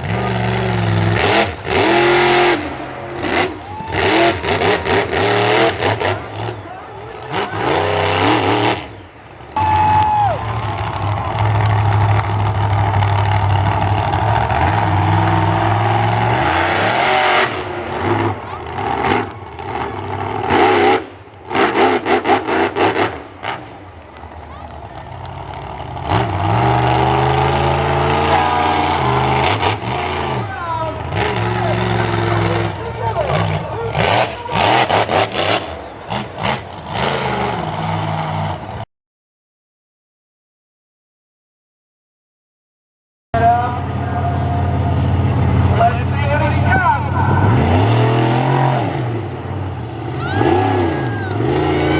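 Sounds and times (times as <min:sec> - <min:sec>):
loud vehicle engine revving: 0:00.0 - 0:38.8, 0:43.4 - 0:51.9.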